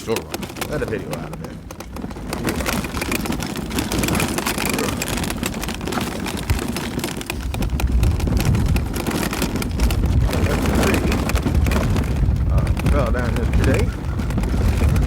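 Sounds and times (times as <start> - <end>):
bicycle rattles and clicks: 0.0 - 15.0
wind rumble on microphone: 0.0 - 15.0.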